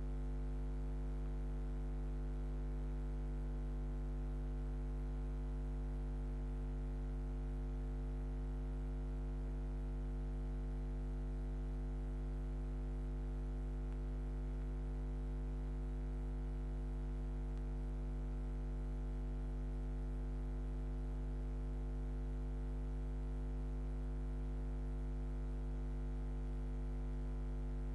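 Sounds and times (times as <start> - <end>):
low buzzy electrical hum: 0.0 - 11.4, 13.2 - 27.9.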